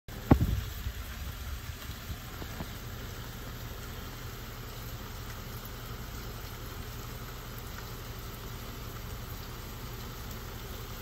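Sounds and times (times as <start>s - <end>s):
heavy rain on pavement: 0.1s - 11.0s.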